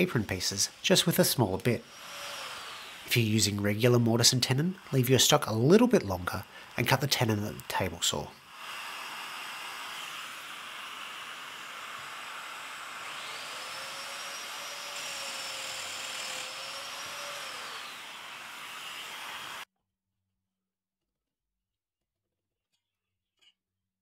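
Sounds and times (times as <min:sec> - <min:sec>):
joiner motor cutting wood: 0:00.0 - 0:19.7.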